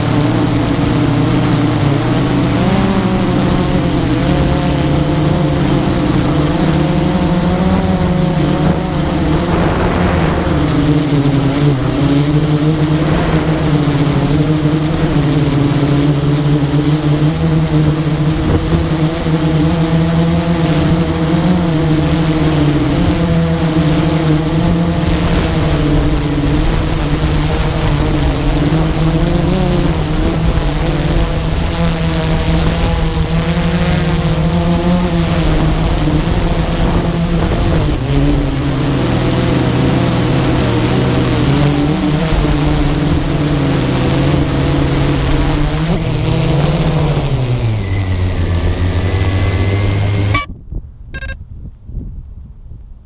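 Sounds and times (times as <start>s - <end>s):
quadcopter motors humming: 0.0s - 50.5s, 51.2s - 51.4s.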